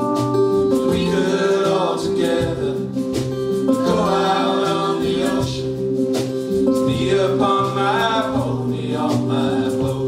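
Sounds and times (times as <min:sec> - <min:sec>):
live band playing country-folk: 0:00.0 - 0:10.0
voices singing together: 0:00.8 - 0:10.0.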